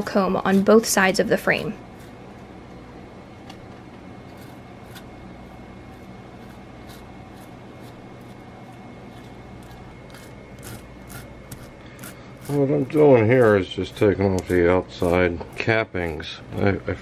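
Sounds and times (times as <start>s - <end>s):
comb scraping wax: 0.0s - 2.5s, 4.2s - 16.4s
steady low hum: 0.0s - 17.0s.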